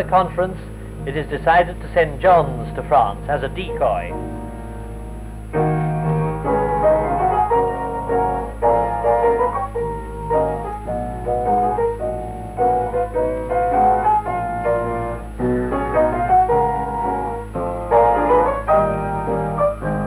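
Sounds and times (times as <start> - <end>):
constant low hum: 0.0 - 20.0
piano music: 0.0 - 20.0.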